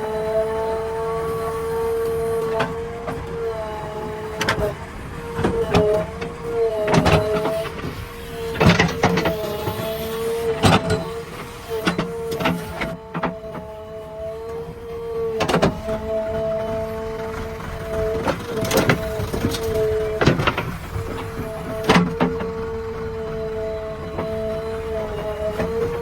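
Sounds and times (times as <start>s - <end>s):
backhoe loader machine whine: 0.0s - 26.0s.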